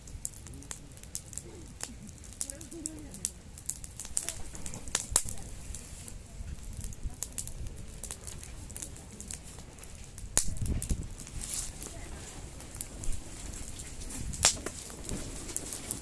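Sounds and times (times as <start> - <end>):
campfire crackling and popping: 0.0 - 16.0
low steady fire rumble: 0.0 - 16.0.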